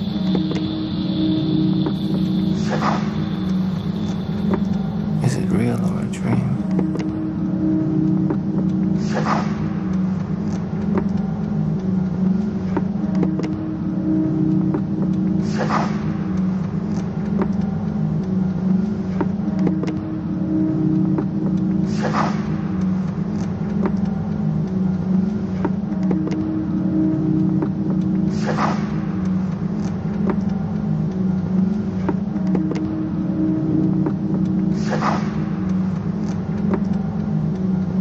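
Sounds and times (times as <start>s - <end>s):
low steady drone: 0.0s - 38.0s.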